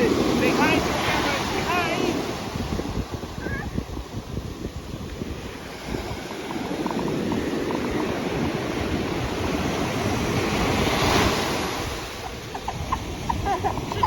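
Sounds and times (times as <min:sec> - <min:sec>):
ocean wave washing in: 0:00.0 - 0:14.0.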